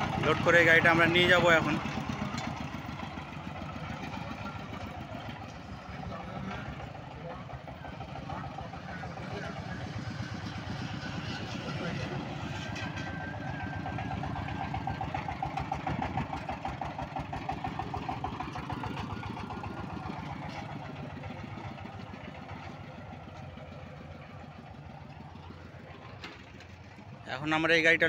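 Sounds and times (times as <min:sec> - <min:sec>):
diesel engine chugging: 0:00.0 - 0:28.0.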